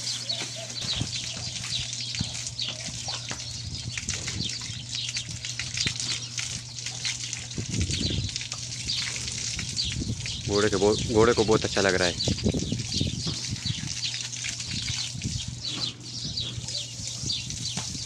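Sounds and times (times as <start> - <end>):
hose water spraying: 0.0 - 18.0.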